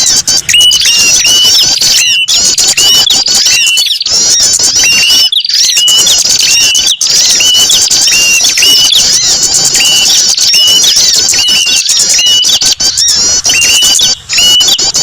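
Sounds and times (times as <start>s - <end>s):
small birds chirping chorus: 0.0s - 15.0s.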